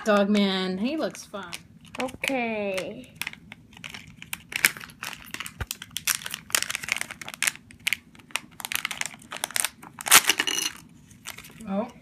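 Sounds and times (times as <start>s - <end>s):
plastic packet crinkling: 1.5s - 11.6s.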